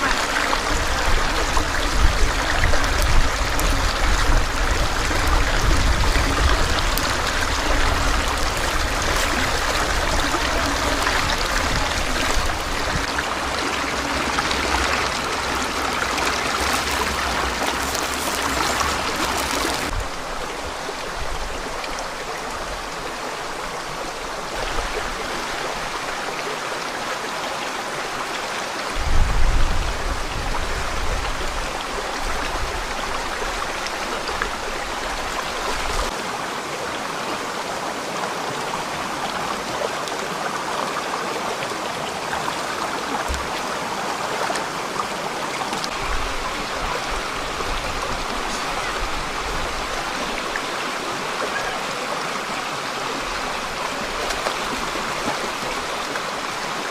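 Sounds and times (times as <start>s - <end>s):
forest stream flowing: 0.0s - 56.9s.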